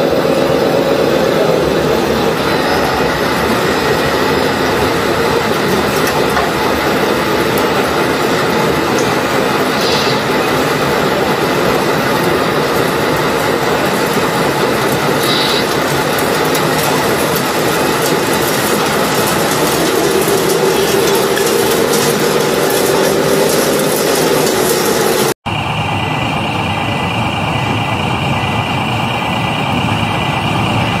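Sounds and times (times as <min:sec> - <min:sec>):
motor hum: 0:00.0 - 0:31.0
rattling rumble of turning drum: 0:00.0 - 0:31.0.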